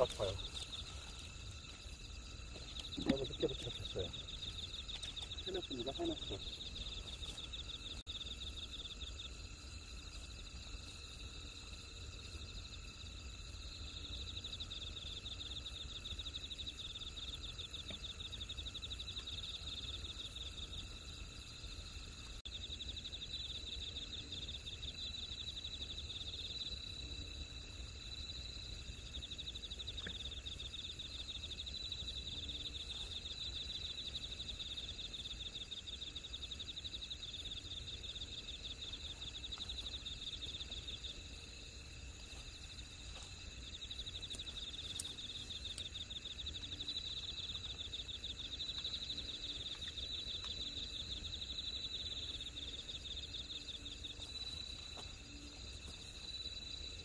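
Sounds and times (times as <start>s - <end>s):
night insects trilling: 0.0s - 57.0s.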